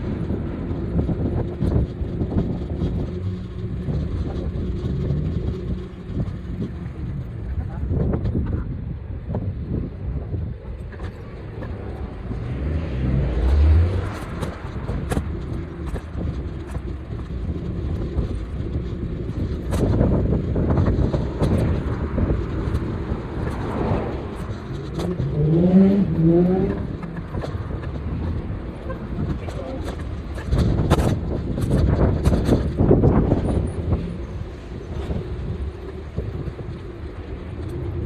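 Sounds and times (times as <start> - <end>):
city street traffic: 0.0 - 38.0
road and wind rumble: 0.0 - 38.0.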